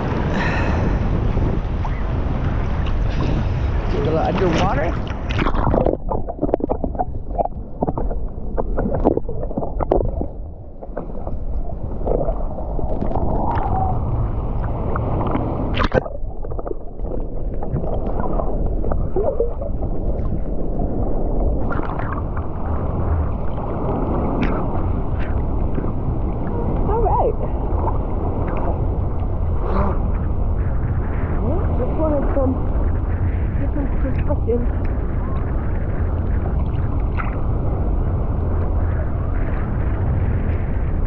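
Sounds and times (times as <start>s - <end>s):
muffled underwater rumble: 0.0s - 41.0s
underwater clicks and gurgles: 0.0s - 41.0s.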